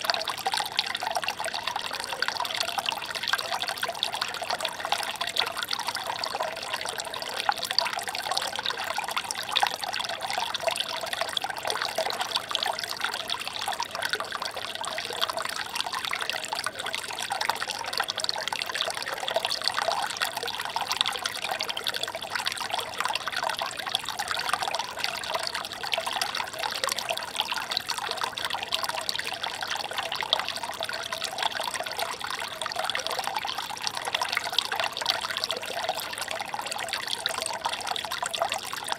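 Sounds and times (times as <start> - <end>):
stream trickling over stones: 0.0 - 38.9.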